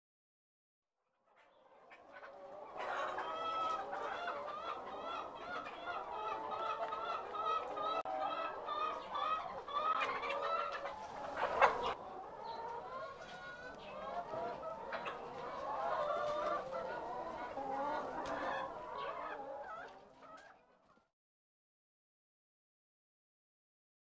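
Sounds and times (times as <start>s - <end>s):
hens clucking: 1.3s - 21.1s.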